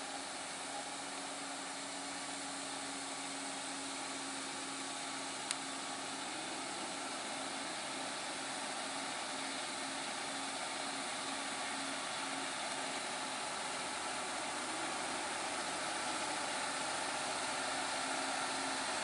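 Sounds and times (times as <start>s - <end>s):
even hiss of noise: 0.0s - 19.0s
faint truck engine running: 0.0s - 19.0s.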